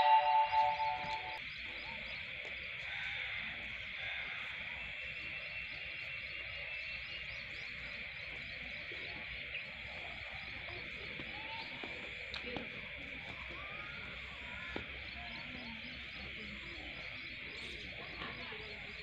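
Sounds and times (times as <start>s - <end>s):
frogs and insects calling: 0.3s - 19.0s.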